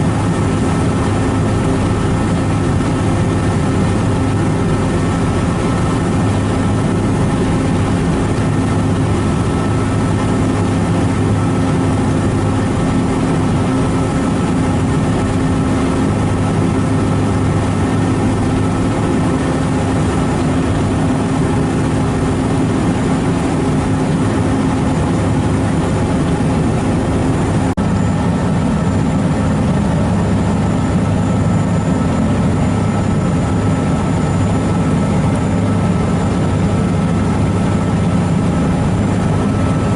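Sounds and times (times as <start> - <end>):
ferry engine humming: 0.0 - 39.9.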